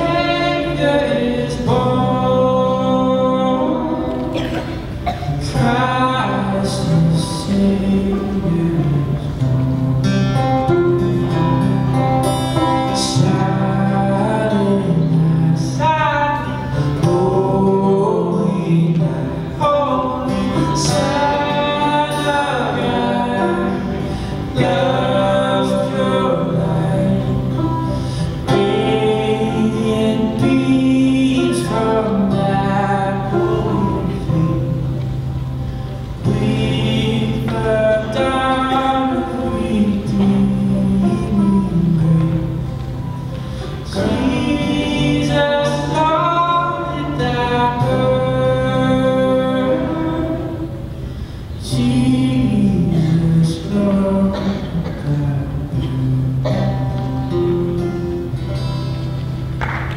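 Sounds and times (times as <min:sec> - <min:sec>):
men singing slow melody: 0:00.0 - 0:10.5, 0:12.7 - 0:57.1
acoustic guitar: 0:00.0 - 0:59.9.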